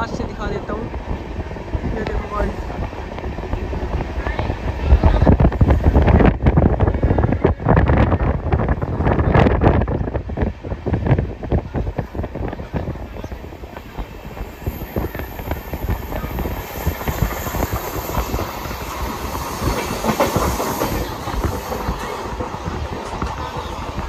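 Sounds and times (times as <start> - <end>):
train rumble with wheel clatter: 0.0 - 24.0.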